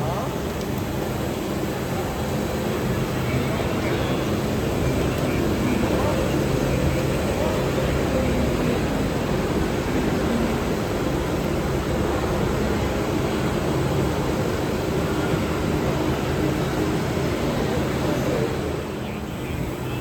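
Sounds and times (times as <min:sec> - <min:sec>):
industrial machinery drone: 0:00.0 - 0:20.0.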